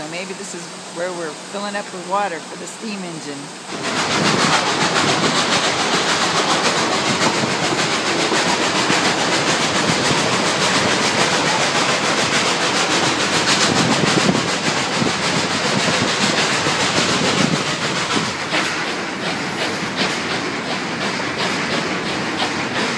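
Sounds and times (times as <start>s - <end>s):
train cars rolling along track: 0.0s - 22.9s.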